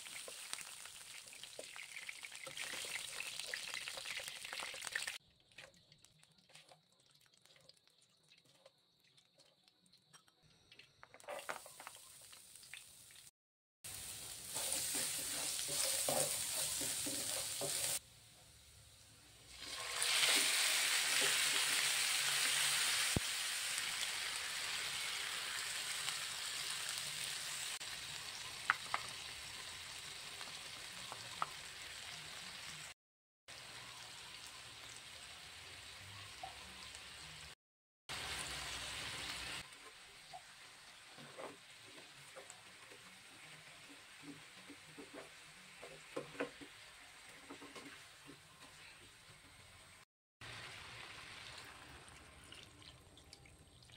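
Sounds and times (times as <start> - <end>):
chicken sizzling in oil: 0.0 - 9.7, 11.2 - 53.9.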